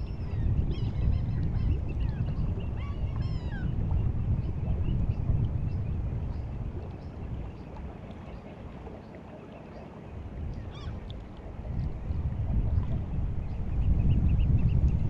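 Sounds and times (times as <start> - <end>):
sea water washing along shore: 0.0 - 13.9.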